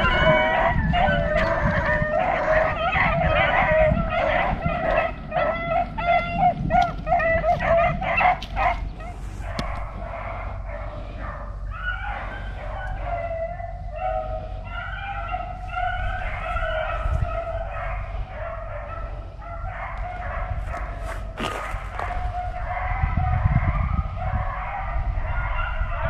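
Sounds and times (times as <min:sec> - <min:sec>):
dogs baying and yelping: 0:00.0 - 0:26.0.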